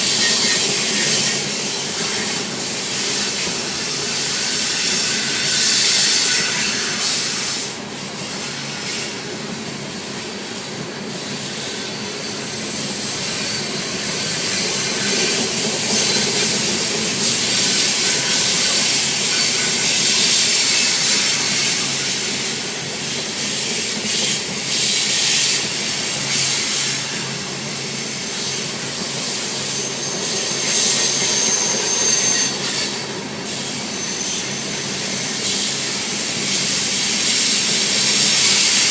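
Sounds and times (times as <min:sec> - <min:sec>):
high-pitched wheel squeals: 0:00.0 - 0:07.8, 0:11.4 - 0:22.4, 0:24.1 - 0:38.9
train wheels rumbling on rails: 0:00.0 - 0:38.9.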